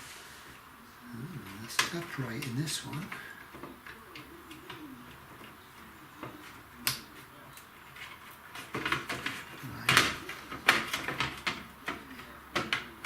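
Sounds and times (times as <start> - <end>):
hard drive clicks and taps: 0.4 - 13.0.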